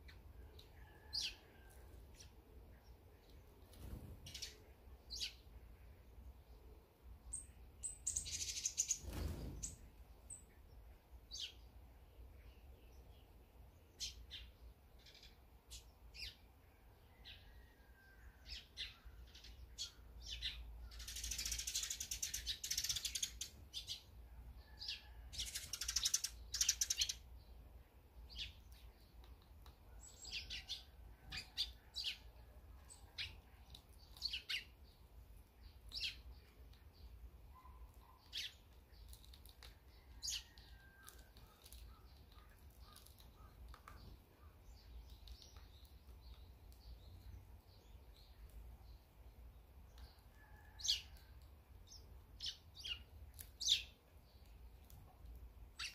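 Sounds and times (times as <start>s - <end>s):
sparrows chirping: 0.0s - 6.5s, 7.2s - 16.6s, 17.2s - 55.9s.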